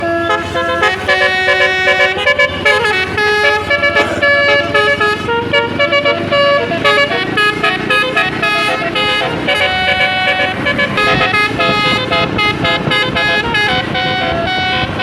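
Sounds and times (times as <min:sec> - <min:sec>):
multi-tone air horn playing a tune: 0:00.0 - 0:15.0.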